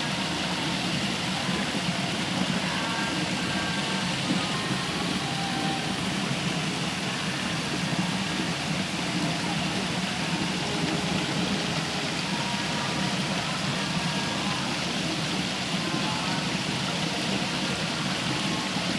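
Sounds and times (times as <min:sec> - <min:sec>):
river flowing over rocks: 0:00.0 - 0:18.9.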